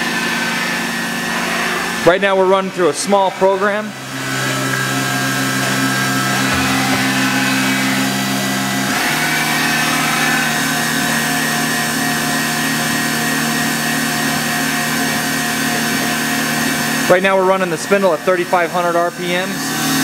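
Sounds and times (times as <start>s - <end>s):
machine spindle motor whine: 0.0s - 17.1s.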